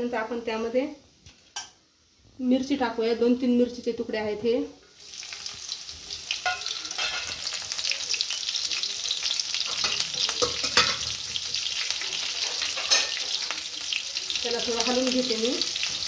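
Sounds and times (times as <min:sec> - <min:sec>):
chilli sizzling in hot oil: 0:00.0 - 0:16.0.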